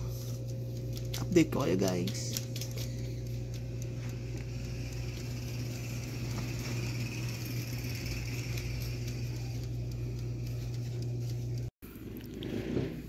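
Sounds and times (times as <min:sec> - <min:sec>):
air fryer humming: 0:00.0 - 0:11.7.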